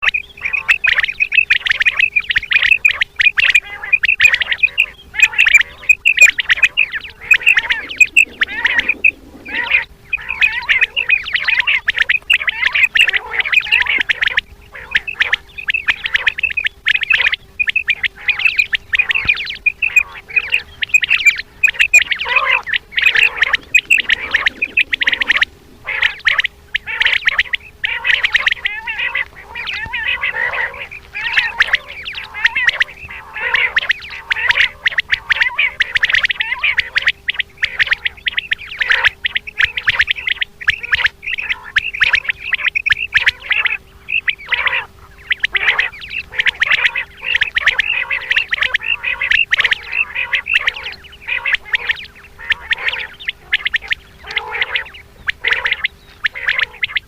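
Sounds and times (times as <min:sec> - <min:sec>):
faint steady hum: 0:00.0 - 0:57.0
quail calling: 0:00.0 - 0:57.0.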